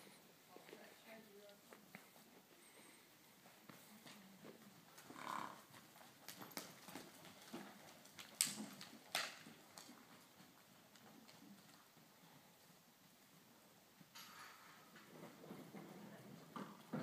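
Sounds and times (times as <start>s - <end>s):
hoofbeats on dirt: 1.6s - 13.5s, 14.6s - 17.0s.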